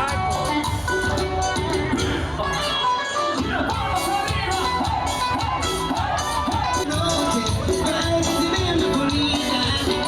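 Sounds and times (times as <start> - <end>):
upbeat music with drum beat: 0.0 - 10.0.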